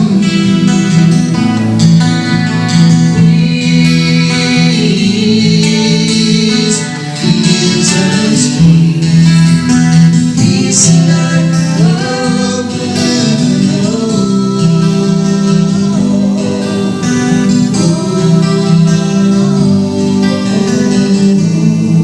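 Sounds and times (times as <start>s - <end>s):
singing with instrumental accompaniment: 0.0s - 22.0s.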